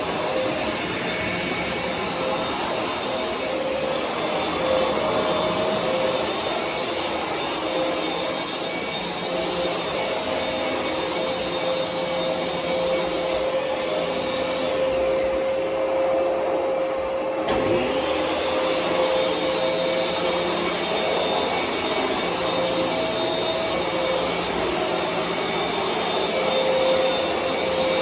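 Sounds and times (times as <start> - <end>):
upright vacuum cleaner running: 0.0 - 28.0.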